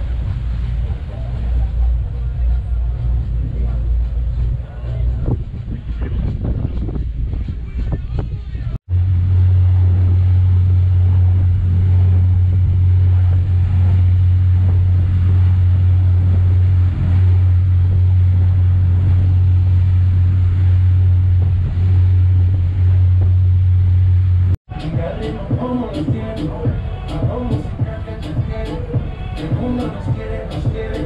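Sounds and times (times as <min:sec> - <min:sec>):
motor boat engine droning: 0:00.0 - 0:07.4, 0:08.6 - 0:31.0
churning wake rushing: 0:00.0 - 0:31.0
wind buffeting microphone: 0:00.0 - 0:31.0.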